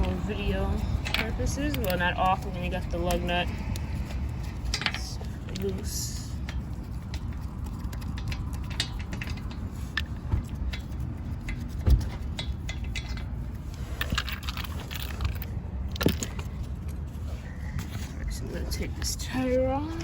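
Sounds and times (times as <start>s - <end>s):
metal clicks and ratcheting: 0.0s - 17.1s.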